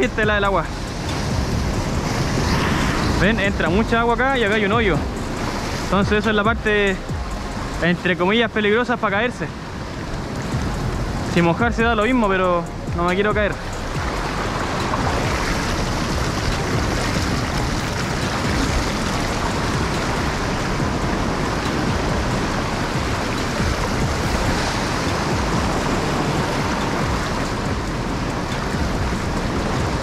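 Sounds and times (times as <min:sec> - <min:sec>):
sea waves rushing among rocks: 0:00.0 - 0:30.0.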